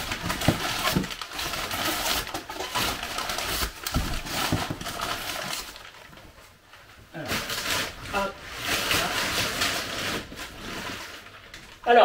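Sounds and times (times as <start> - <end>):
packing paper rustling and crinkling: 0.0 - 12.0.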